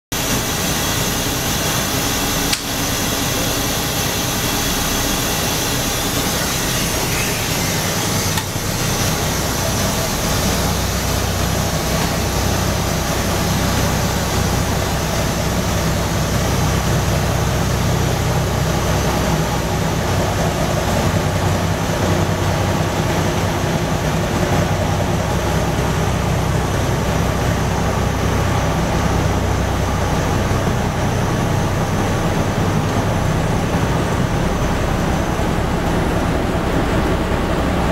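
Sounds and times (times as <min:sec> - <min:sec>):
diesel engine idling: 0:00.2 - 0:37.9.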